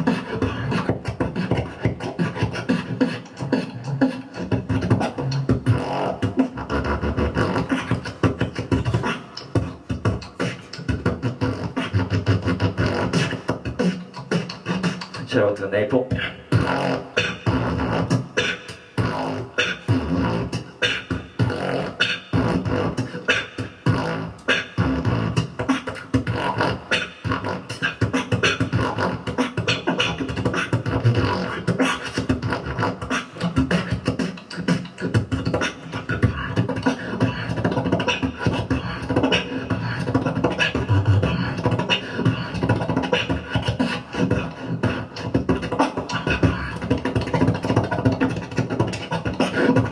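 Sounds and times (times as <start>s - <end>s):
beatboxing into a microphone: 0.0s - 49.9s.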